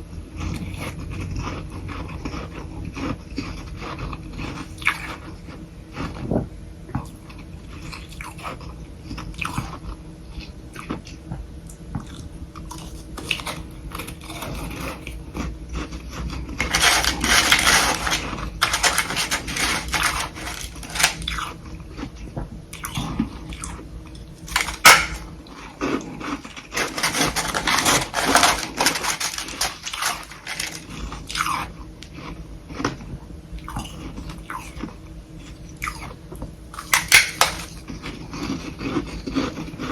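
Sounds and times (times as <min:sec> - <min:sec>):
biting and chewing frost: 0:00.4 - 0:09.8, 0:11.9 - 0:39.9.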